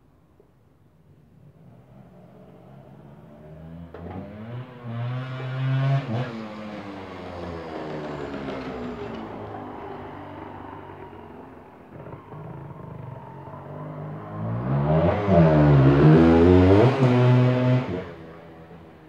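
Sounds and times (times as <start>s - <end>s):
motorcycle engine passing: 2.1s - 18.8s.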